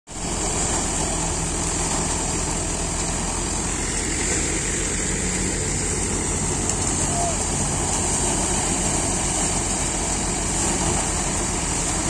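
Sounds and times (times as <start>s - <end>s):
thresher drum and fan whirring: 0.1s - 12.0s
tractor diesel engine running: 0.1s - 12.0s.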